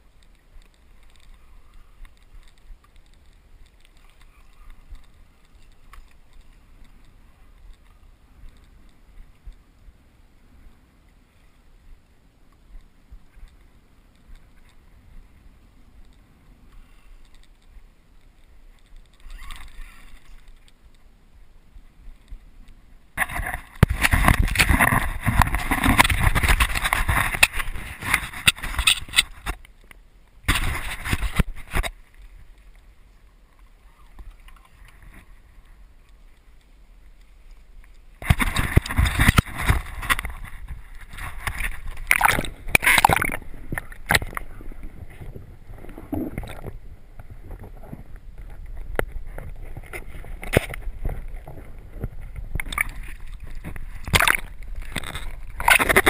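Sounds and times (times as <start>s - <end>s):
faint water lapping: 0.0s - 56.0s.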